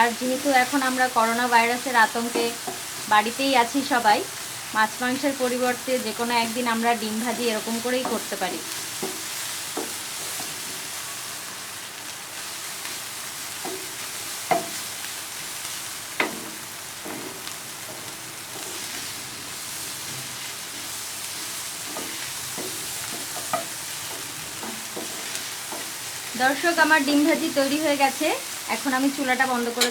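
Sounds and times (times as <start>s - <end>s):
eggs sizzling in a frying pan: 0.0s - 29.9s.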